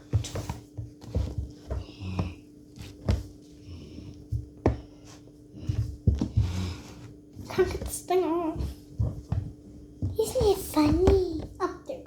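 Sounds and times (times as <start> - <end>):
handling knocks and rustles: 0.0 - 3.5, 4.2 - 11.6
faint hum: 0.0 - 12.0.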